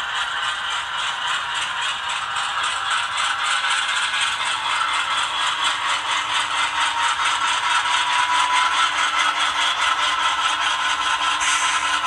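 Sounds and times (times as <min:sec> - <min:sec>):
model train diesel engine sound: 0:00.0 - 0:12.0.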